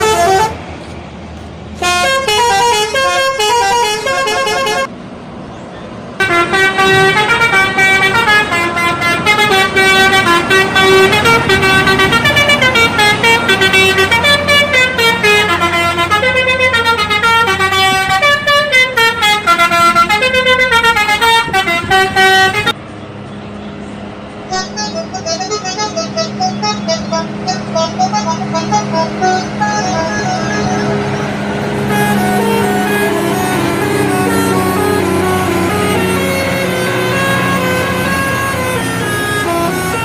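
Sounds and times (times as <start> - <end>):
bus horn playing melodic notes: 0.0 - 0.9, 1.8 - 4.9, 6.2 - 22.8, 24.5 - 40.0.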